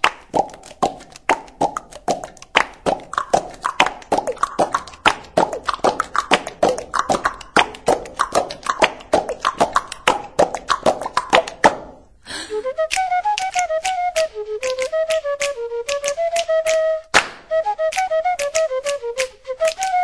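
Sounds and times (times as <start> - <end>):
beatboxing clicks and pops: 0.0 - 12.0, 12.8 - 20.0.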